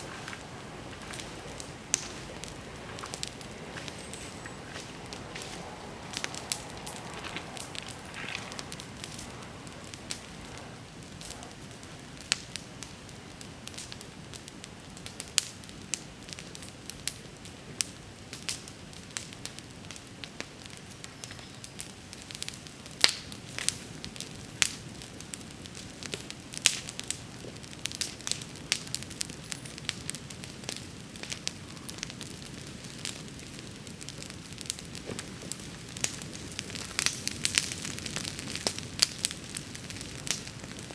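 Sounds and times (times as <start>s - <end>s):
bonfire flames rushing: 0.0s - 40.9s
fire crackling and popping: 0.0s - 40.9s.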